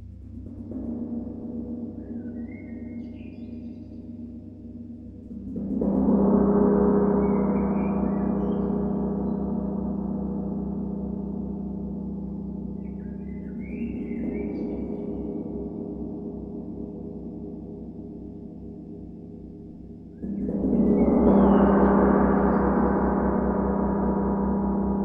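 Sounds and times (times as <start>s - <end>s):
steady low drone: 0.0s - 25.0s.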